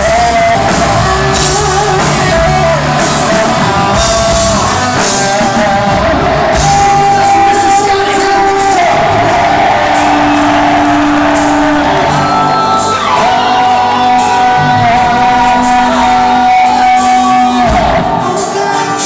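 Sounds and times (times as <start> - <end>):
hard rock band playing: 0.0 - 19.0.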